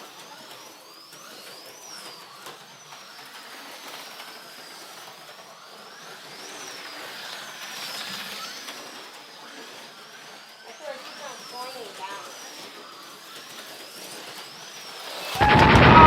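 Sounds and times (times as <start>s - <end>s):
slot car motors whining: 0.0s - 16.0s.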